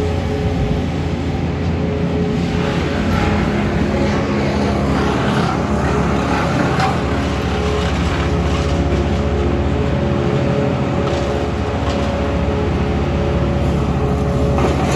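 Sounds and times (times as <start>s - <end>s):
engine running: 0.0s - 14.9s.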